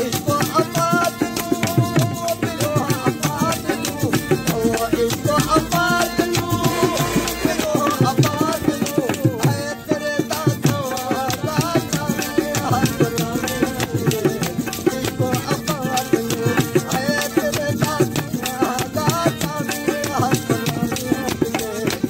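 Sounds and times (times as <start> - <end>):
clappers rattling rhythm: 0.0 - 22.0
harmonium: 0.0 - 22.0
person singing: 0.0 - 22.0.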